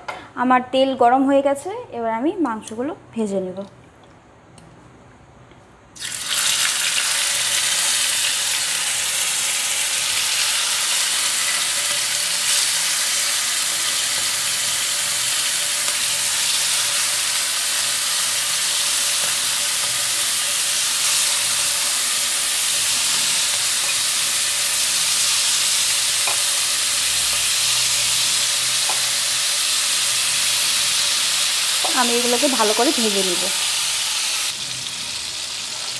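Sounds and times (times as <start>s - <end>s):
chicken sizzling in hot oil: 6.0s - 35.9s.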